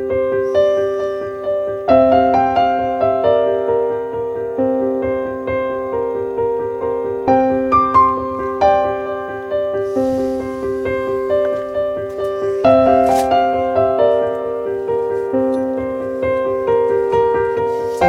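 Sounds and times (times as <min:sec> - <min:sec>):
solo piano music: 0:00.0 - 0:18.0.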